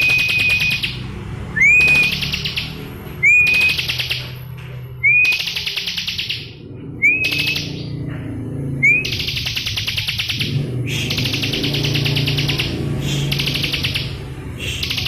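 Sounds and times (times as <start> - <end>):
bird whistle and trill song: 0.0 - 4.4, 5.0 - 8.0, 8.8 - 15.0.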